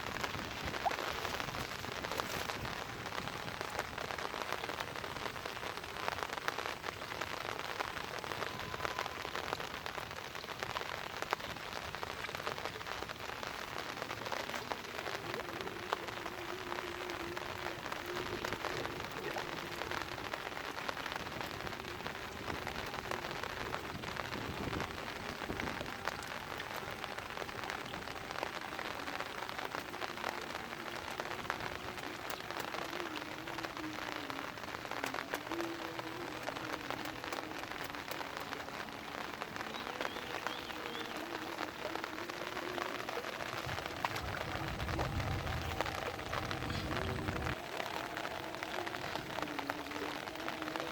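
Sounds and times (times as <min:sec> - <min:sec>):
steady rain pattering: 0:00.0 - 0:50.9.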